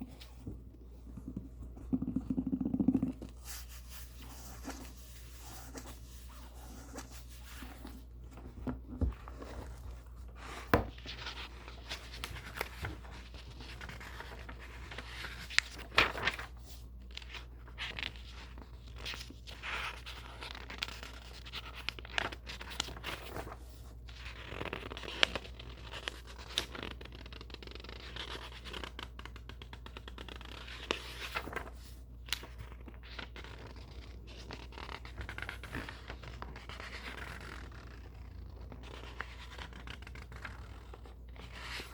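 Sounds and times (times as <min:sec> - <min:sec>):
book pages rustling: 0:00.0 - 0:01.6, 0:03.1 - 0:41.9.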